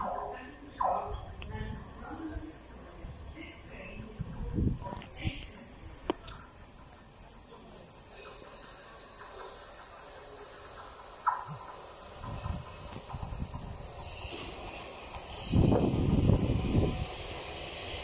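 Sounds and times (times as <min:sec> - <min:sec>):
high rail hiss: 0:00.0 - 0:18.0
train rumbling: 0:00.0 - 0:18.0.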